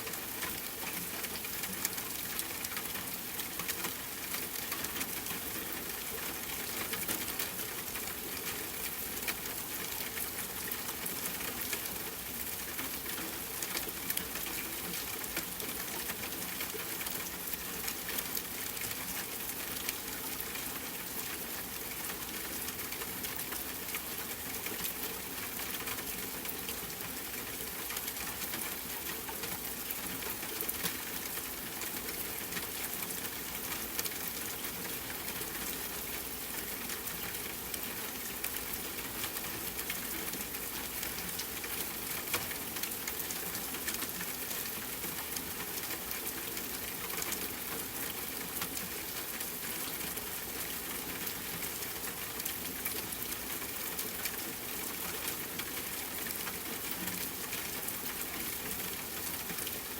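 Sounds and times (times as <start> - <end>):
rain falling on a tent: 0.0 - 59.9.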